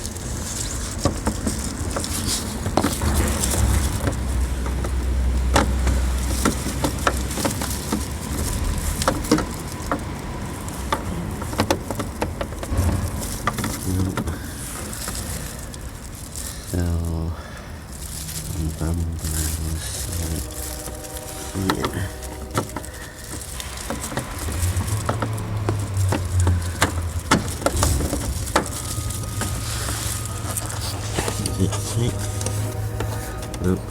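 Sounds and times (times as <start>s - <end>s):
plastic parts clicking and tapping: 0.0s - 16.5s, 19.4s - 30.8s
low rumble: 1.5s - 9.6s, 12.3s - 33.9s.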